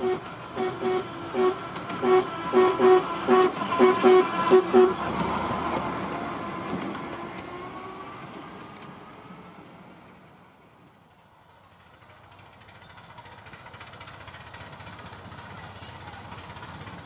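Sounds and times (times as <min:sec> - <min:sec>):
steam locomotive exhaust beats: 0:00.0 - 0:09.0, 0:11.8 - 0:17.0
train running sound: 0:00.0 - 0:17.0.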